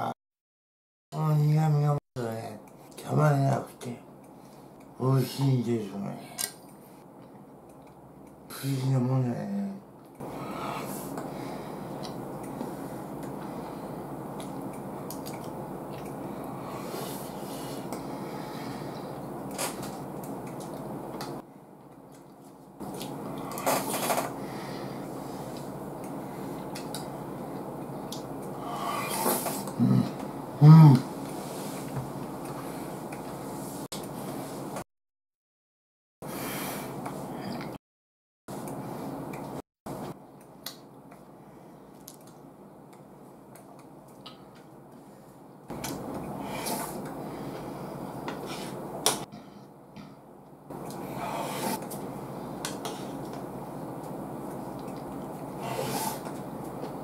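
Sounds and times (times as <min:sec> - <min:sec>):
steady low hum: 0:01.2 - 0:34.8, 0:38.5 - 0:57.0.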